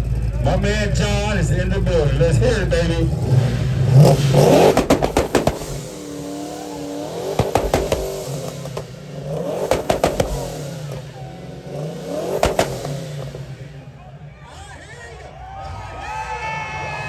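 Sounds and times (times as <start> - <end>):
exhaust pops and crackles: 0.0 - 14.2
car engine revving: 0.0 - 14.5.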